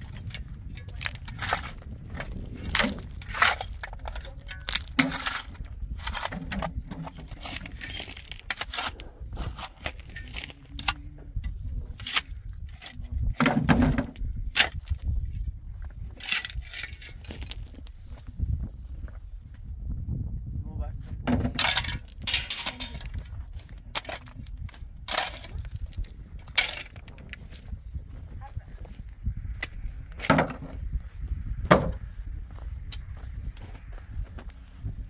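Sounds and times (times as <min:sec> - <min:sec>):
steady low rumble: 0:00.0 - 0:13.4, 0:14.1 - 0:35.0.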